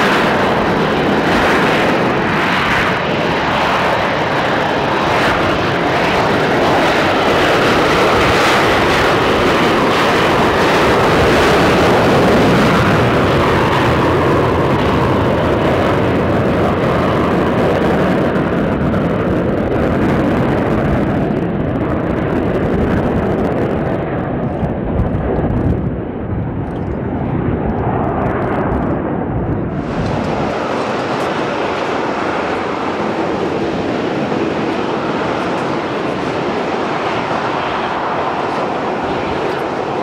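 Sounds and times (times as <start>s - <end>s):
jet airliner taxiing: 0.0s - 40.0s
jet engines at takeoff power: 0.0s - 40.0s.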